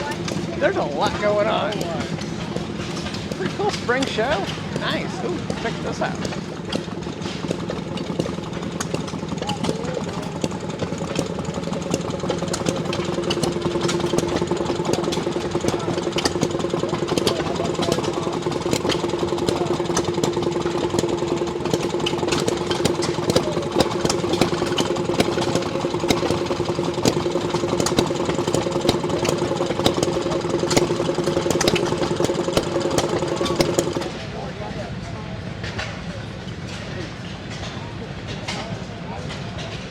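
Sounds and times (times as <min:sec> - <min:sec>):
engine clicking and knocking: 0:00.0 - 0:39.9.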